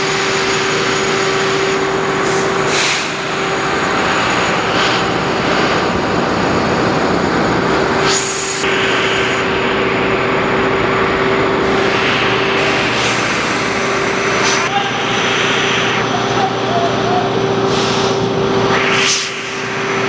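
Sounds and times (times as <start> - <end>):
constant whine: 0.0 - 20.0
diesel machinery running: 0.0 - 20.0.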